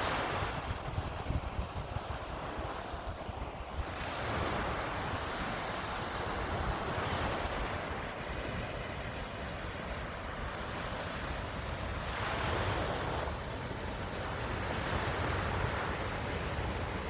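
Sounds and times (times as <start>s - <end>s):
surf rushing: 0.0s - 17.0s
wind rumbling on microphone: 0.0s - 17.0s.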